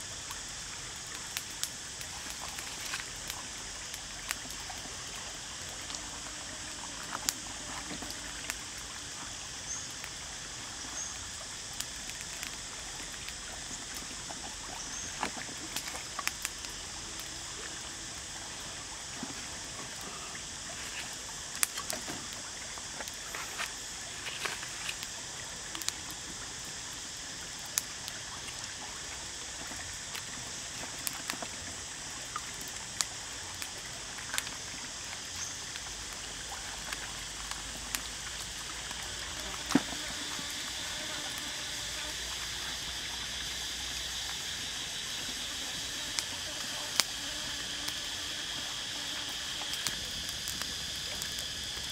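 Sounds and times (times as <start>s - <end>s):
outdoor ambient hiss: 0.0s - 51.9s.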